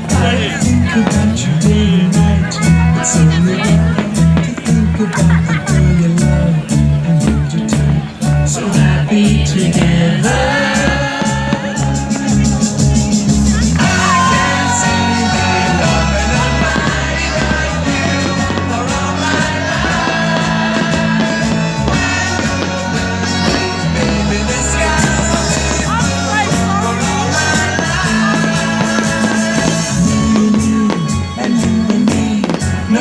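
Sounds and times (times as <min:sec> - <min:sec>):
rock music with singing: 0:00.0 - 0:33.0.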